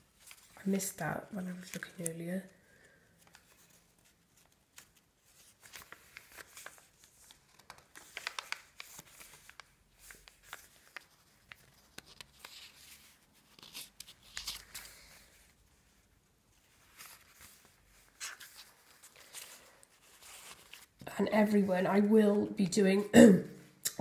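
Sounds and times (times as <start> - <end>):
paper rustling and crinkling: 0.0 - 21.1.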